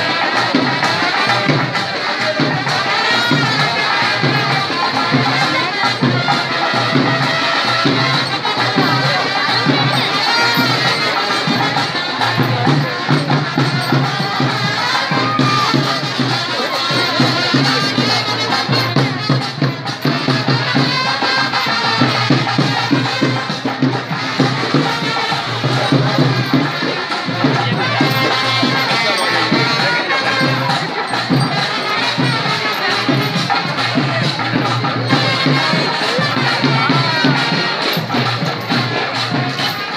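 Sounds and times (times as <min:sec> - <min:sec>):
crowd noise: 0:00.0 - 0:39.9
rhythmic drumming: 0:00.0 - 0:39.9.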